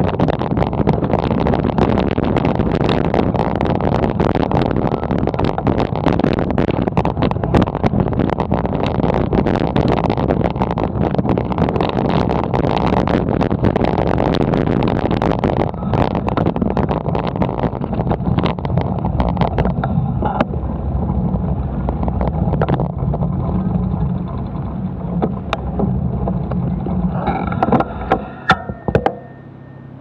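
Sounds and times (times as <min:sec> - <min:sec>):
bike clicks and rattles: 0:00.0 - 0:29.5
wind and traffic rumble: 0:00.0 - 0:30.0.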